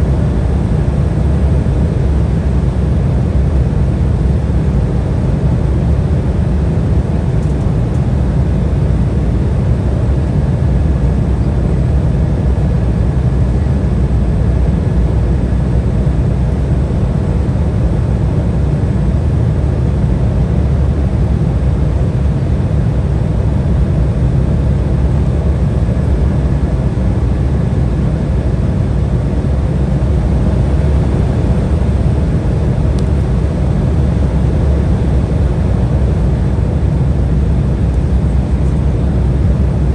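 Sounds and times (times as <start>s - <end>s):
airflow rushing in cabin: 0.0s - 39.9s
jet engines droning: 0.0s - 39.9s.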